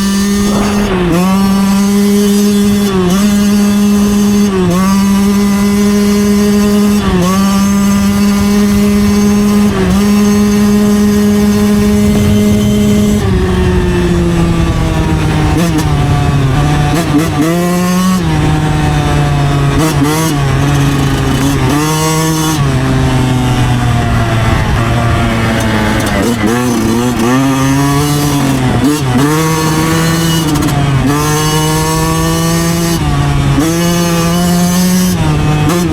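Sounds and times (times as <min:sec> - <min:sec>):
two-stroke engine revving: 0:00.0 - 0:35.9.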